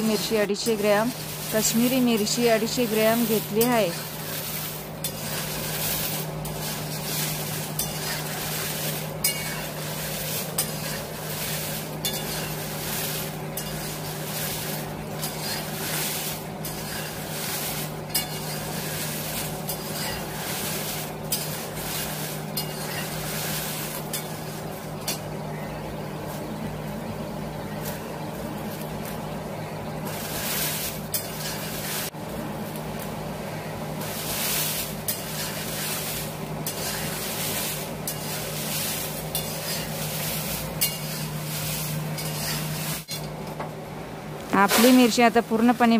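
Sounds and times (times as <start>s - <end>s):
spatulas scraping metal pan: 0.0s - 25.2s, 30.0s - 32.1s, 34.0s - 43.3s, 44.6s - 45.9s
chillies sizzling in oil: 0.0s - 43.4s, 44.5s - 45.9s.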